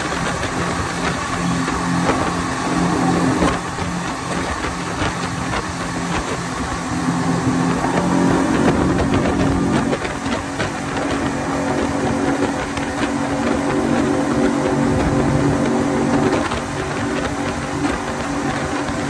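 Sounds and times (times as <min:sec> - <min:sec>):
outboard motors drone: 0:00.0 - 0:19.0
wind and water rushing: 0:00.0 - 0:19.0.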